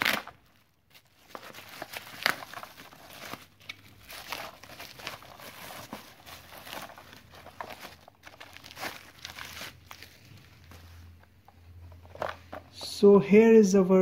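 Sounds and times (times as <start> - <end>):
bubble wrap crinkling: 0.0 - 12.6.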